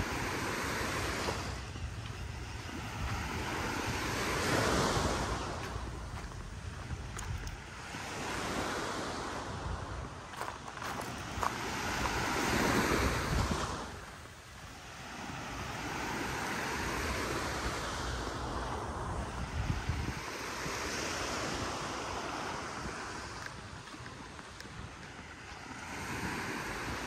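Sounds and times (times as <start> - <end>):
wind buffeting microphone: 0.0 - 14.3, 15.2 - 27.0
surf washing up beach: 0.0 - 27.0.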